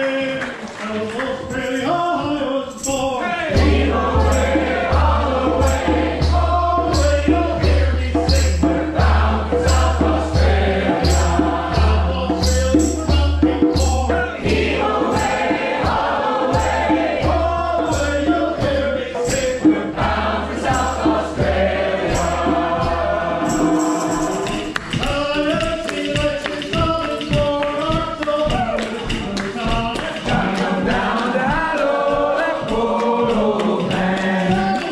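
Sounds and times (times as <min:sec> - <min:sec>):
group of voices singing: 0:00.0 - 0:34.9
jingling hand percussion: 0:00.0 - 0:34.9
djembe beating: 0:03.5 - 0:34.9.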